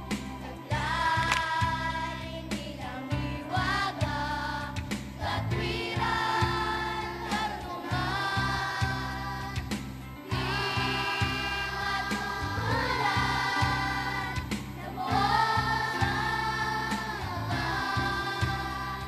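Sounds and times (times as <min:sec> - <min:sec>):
children's choir singing: 0:00.4 - 0:19.0
instrumental accompaniment: 0:03.6 - 0:19.0.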